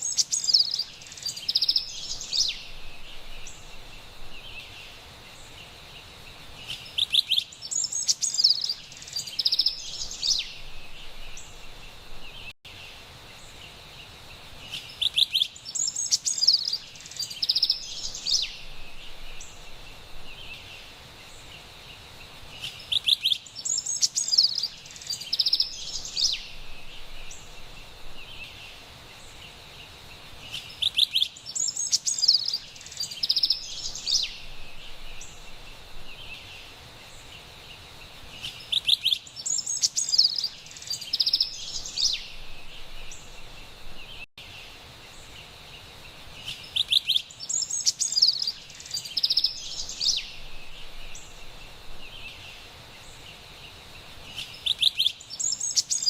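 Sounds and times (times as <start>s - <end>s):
bird singing chirps and trills: 0.0s - 56.0s
faint steady hiss: 0.0s - 56.0s.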